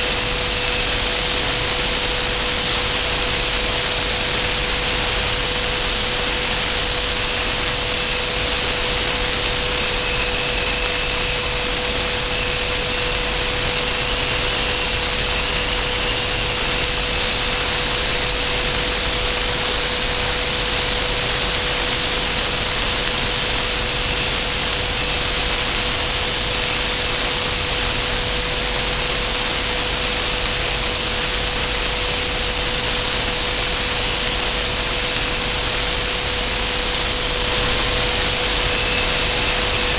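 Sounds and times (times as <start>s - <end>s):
high-pitched machinery whine: 0.0s - 39.9s
low machinery hum and hiss: 0.0s - 39.9s.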